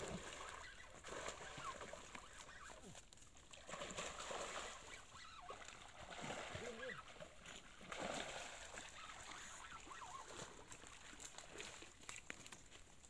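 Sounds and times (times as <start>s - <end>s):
fish splashing in shallow water: 0.0s - 13.0s.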